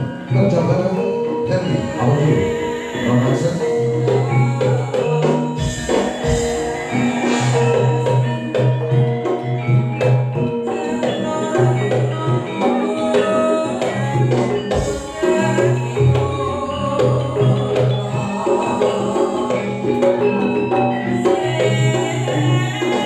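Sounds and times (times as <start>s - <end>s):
hand drums: 0.0s - 23.0s
metallophones: 0.0s - 23.0s.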